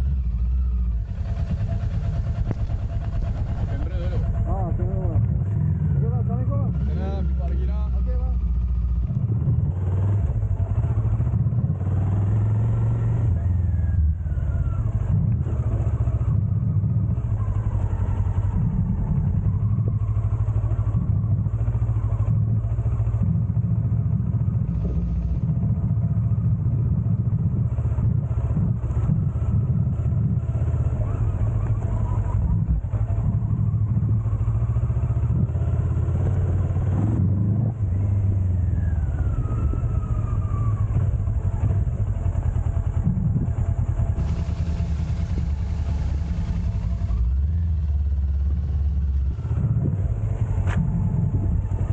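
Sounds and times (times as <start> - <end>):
wind rumble on microphone: 0.0 - 7.2, 9.0 - 51.9
motorcycle engine running: 0.0 - 51.9.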